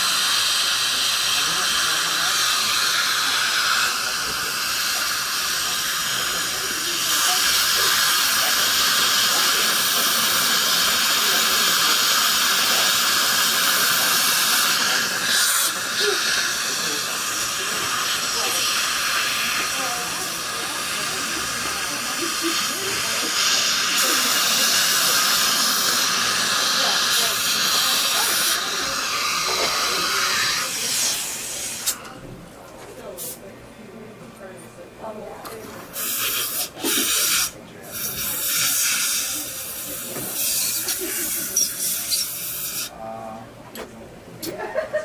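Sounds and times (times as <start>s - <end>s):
dental equipment hissing: 0.0s - 32.2s, 35.6s - 43.0s.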